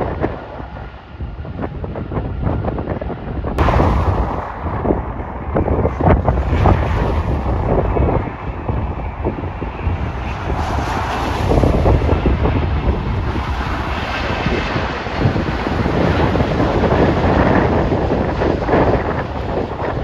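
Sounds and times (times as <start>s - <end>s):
rumbling background: 0.0s - 20.0s
wind buffeting microphone: 0.0s - 20.0s.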